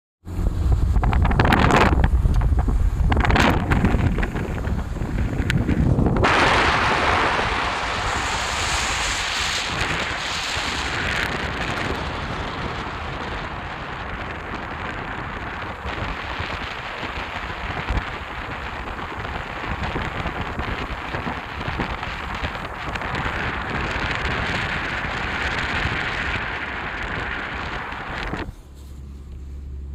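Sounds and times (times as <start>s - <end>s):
wind buffeting microphone: 0.3s - 28.8s.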